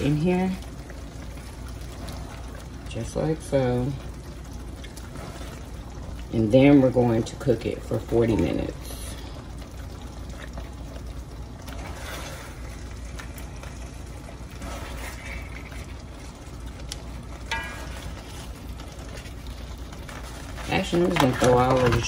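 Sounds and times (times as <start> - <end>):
sauce bubbling in a wok: 0.0 - 22.0.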